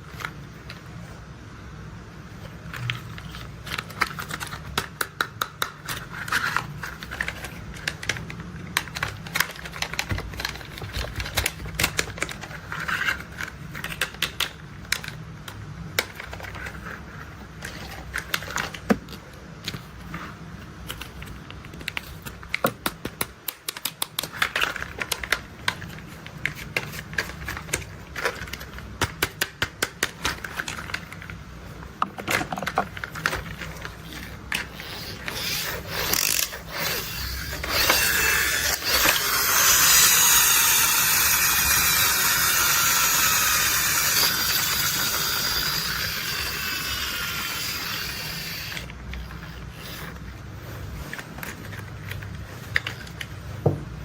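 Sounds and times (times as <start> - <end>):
plastic toys clicking and rattling: 2.4 - 53.6.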